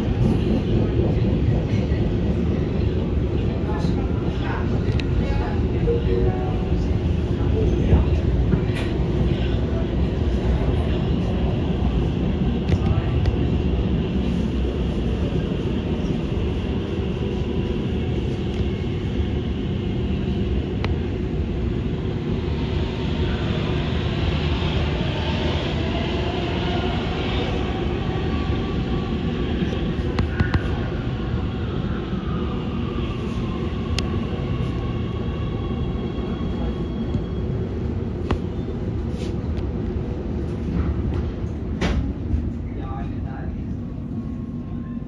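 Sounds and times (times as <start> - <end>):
passing train rush: 0.0 - 45.0
train wheels rumbling on track: 0.0 - 45.0.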